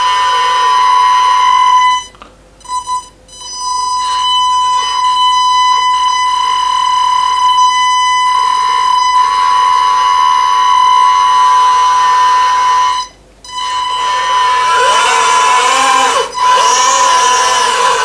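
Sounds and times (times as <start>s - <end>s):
hydraulic pump whining: 0.0s - 2.2s, 3.8s - 18.0s.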